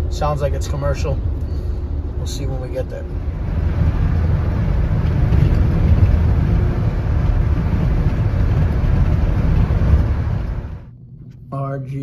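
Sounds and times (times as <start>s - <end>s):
road and engine noise in cabin: 0.0s - 12.0s.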